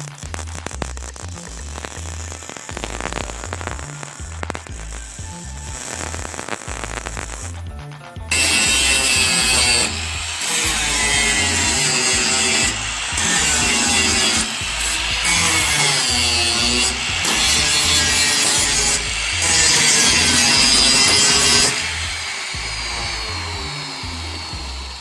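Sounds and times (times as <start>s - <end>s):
power grinder on sheet metal: 0.0s - 7.3s, 8.3s - 25.0s.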